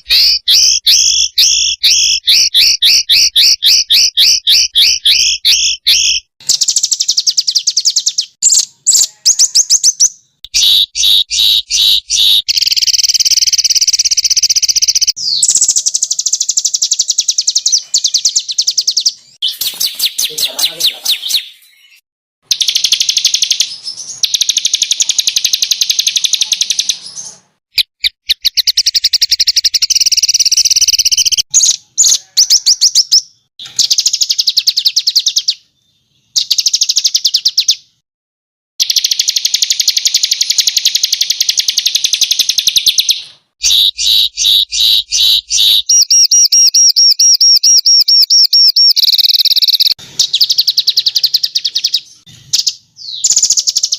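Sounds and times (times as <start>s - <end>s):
songbirds trilling and chirping: 0.0s - 38.0s, 38.8s - 53.9s.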